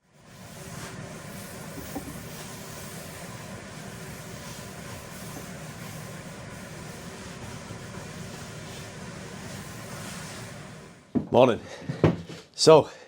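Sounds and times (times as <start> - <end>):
faint hiss: 0.3 - 11.1.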